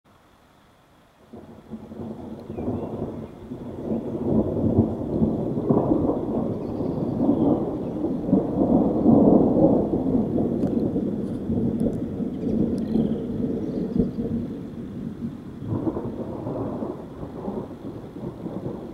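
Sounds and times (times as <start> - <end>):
faint steady hiss: 0.1 - 18.9
thunder rumble: 1.3 - 18.9.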